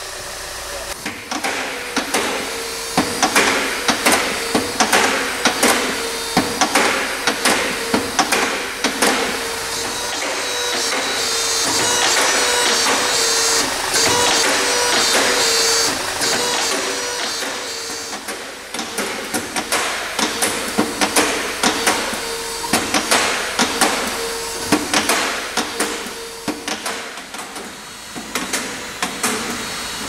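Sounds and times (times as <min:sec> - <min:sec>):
hydraulic pump humming: 0:00.0 - 0:30.0.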